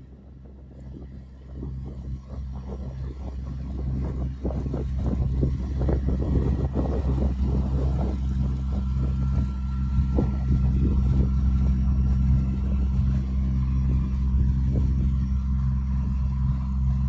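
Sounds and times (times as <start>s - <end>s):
boat engine humming: 0.0s - 17.0s
wind: 0.0s - 17.0s.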